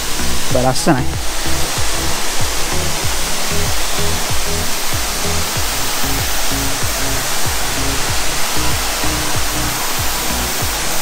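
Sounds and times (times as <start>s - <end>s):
music with bass and kick drum: 0.0s - 11.0s
waterfall rushing: 0.0s - 11.0s.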